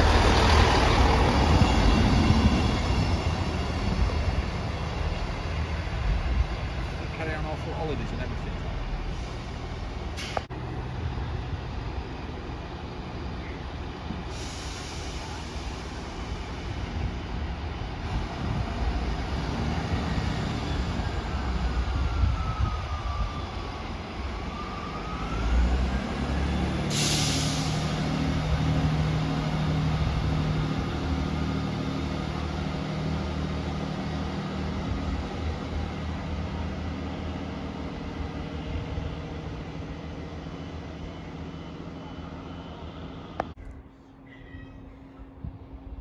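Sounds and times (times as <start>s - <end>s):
diesel train engines running: 0.0s - 46.0s.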